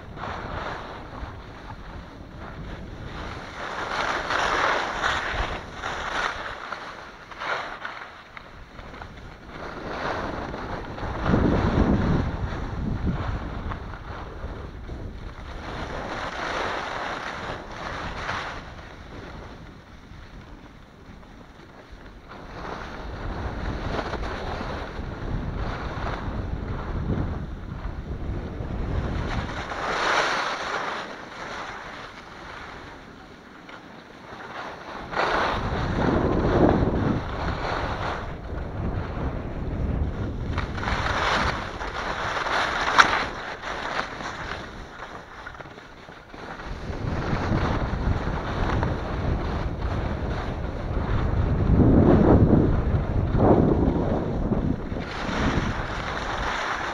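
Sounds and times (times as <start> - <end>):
skis scraping over packed snow: 0.0 - 56.9
wind rumble on microphone: 0.0 - 56.9.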